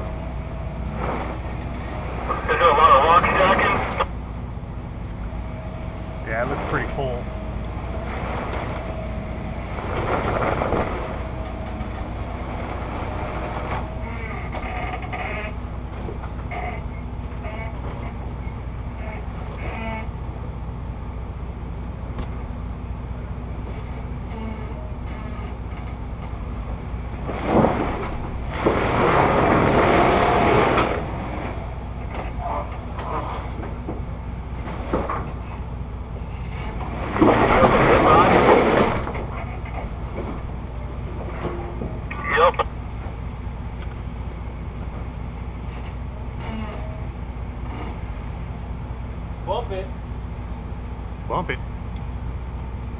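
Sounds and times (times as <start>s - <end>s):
engine running under load: 0.0s - 52.9s.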